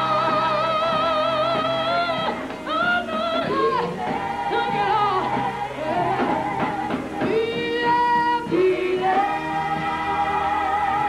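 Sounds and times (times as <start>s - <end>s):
band accompaniment: 0.0s - 11.0s
women singing gospel: 0.0s - 11.0s.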